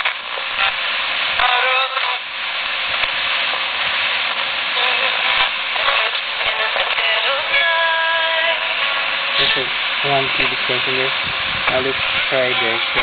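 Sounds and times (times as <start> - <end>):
radio static hiss: 0.0 - 13.0
steady radio tones: 0.0 - 13.0.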